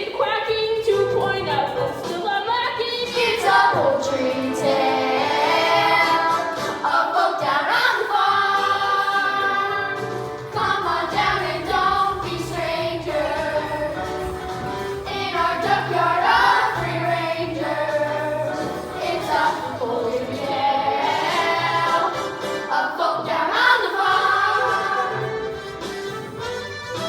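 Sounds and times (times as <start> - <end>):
instrumental accompaniment: 1.0 - 27.0
children singing together: 3.1 - 25.9.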